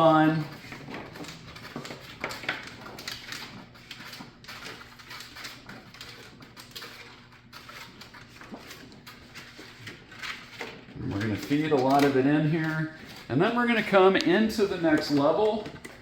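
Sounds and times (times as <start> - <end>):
heat tape scraping and rustling: 0.0 - 16.0.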